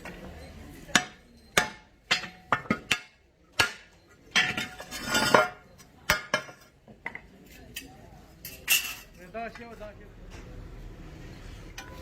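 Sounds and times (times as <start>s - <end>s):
metal tools knocking: 0.0s - 9.7s.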